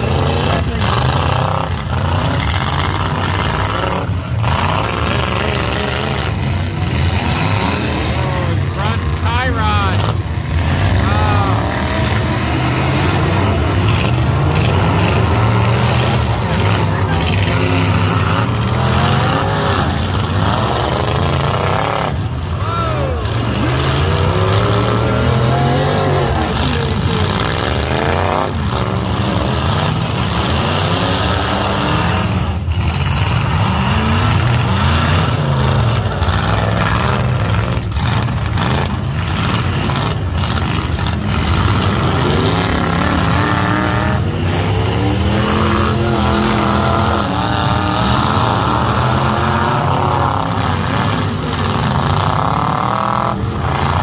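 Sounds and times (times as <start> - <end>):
truck engines revving hard: 0.0 - 54.0.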